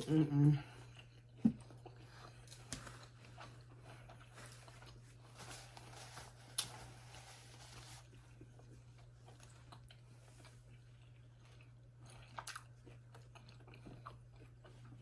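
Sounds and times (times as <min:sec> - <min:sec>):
close chewing of food: 0:00.0 - 0:15.0.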